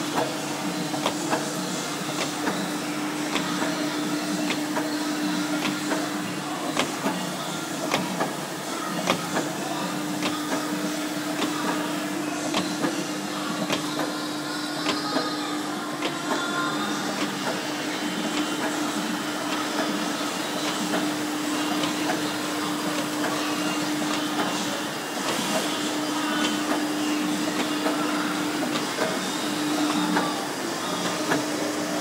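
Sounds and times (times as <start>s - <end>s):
machine hum with held tone: 0.0s - 32.0s.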